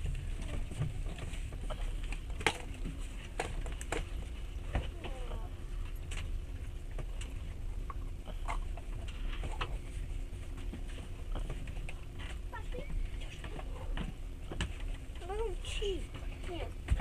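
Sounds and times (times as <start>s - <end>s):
train carriage low rumble: 0.0s - 17.0s.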